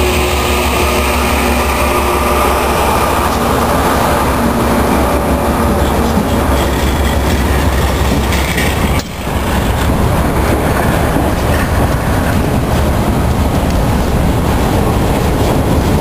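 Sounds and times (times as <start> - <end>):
freight train passing: 0.0 - 16.0
steel wheels clattering on rails: 0.0 - 16.0.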